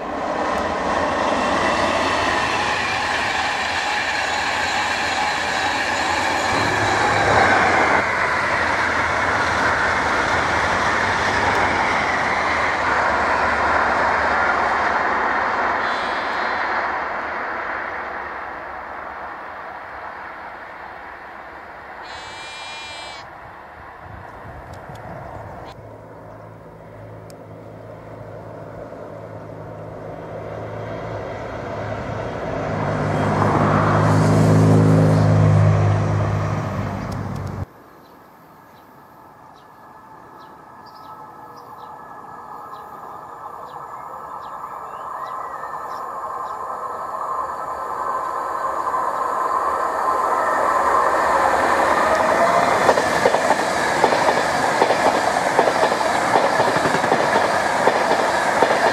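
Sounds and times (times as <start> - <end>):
train rushing past: 0.0 - 37.7, 39.2 - 58.9
distant diesel train engine: 0.0 - 58.9.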